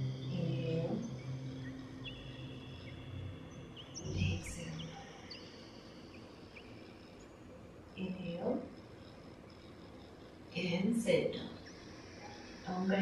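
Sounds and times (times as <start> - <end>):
faint high-pitched hum: 0.0 - 13.0
small birds chirping: 0.0 - 13.0
soft low music tones: 0.0 - 13.0.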